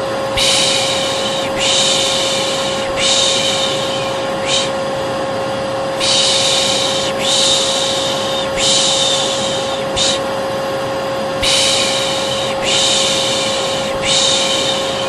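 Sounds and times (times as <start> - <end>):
hair dryer humming: 0.0 - 15.0
person shushing: 0.3 - 4.8, 6.0 - 10.3, 11.4 - 15.0.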